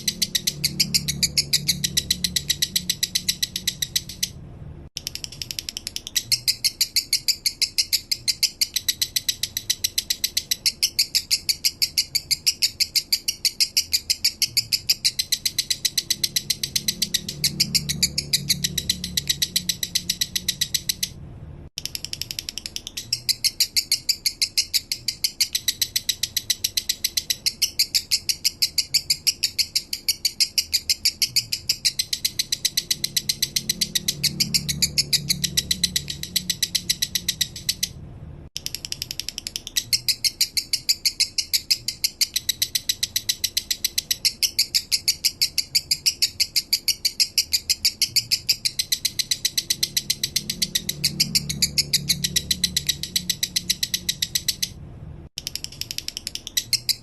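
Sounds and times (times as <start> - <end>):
lovebird chattering chirps: 0.0 - 4.4, 5.0 - 21.2, 21.8 - 38.0, 38.6 - 54.8, 55.4 - 57.0.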